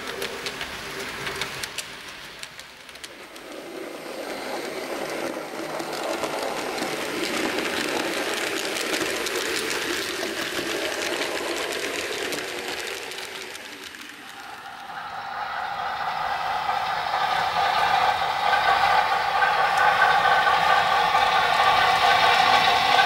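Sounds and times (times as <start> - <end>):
model train wheels clicking on rails: 0.0 - 23.0.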